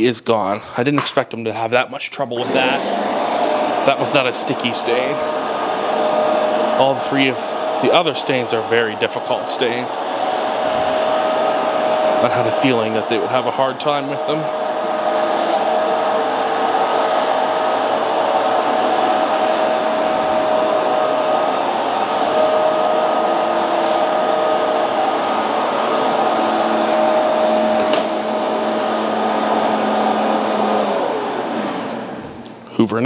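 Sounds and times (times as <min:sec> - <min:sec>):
carpet cleaner motor whine: 0:02.4 - 0:32.5.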